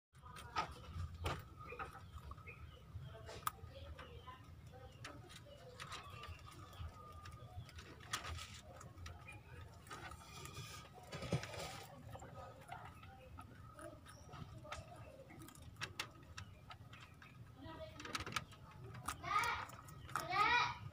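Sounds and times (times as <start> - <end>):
rabbit chewing carrot: 0.2 - 20.9.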